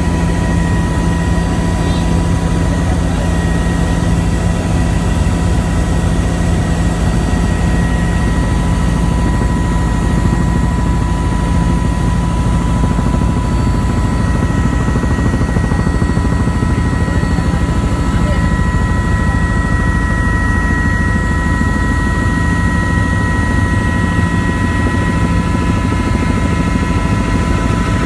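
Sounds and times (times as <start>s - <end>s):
constant whining tones: 0.0s - 28.0s
helicopter turbine and rotor drone: 0.0s - 28.0s.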